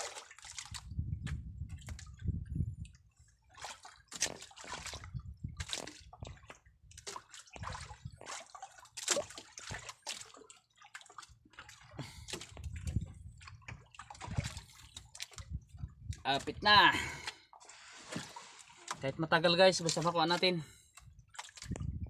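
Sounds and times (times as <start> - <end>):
water sloshing and dripping: 0.0 - 22.0.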